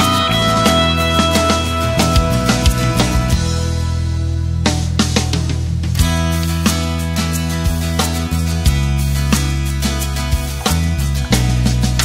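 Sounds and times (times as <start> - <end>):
guitar background music: 0.0 - 12.0.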